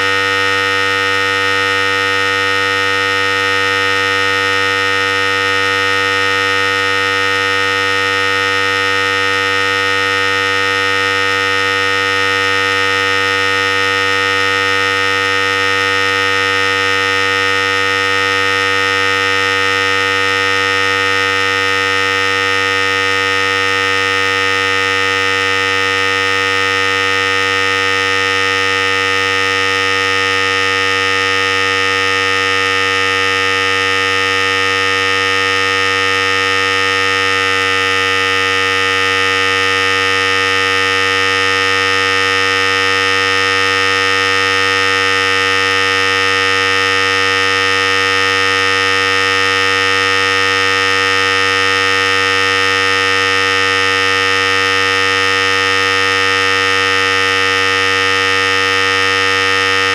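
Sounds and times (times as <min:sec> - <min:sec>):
hair clipper running: 0:00.0 - 0:59.9.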